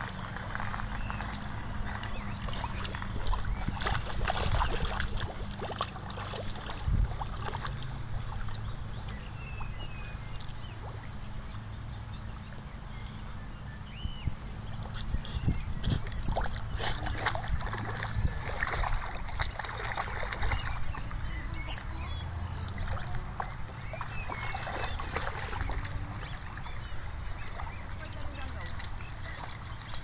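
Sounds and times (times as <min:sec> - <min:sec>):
dog splashing in stream: 0:00.0 - 0:11.5, 0:15.8 - 0:30.0.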